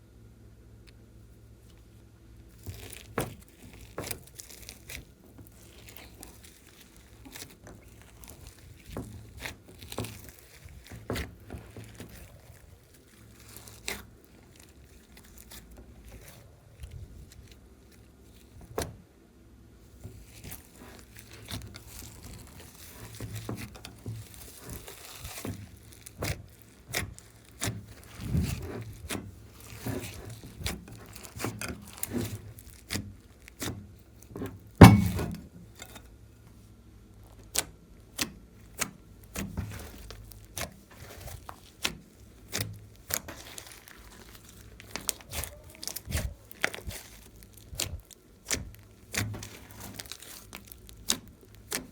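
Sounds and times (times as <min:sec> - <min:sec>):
hands squishing slime: 0:02.5 - 0:19.0, 0:19.8 - 0:35.8, 0:37.1 - 0:51.9.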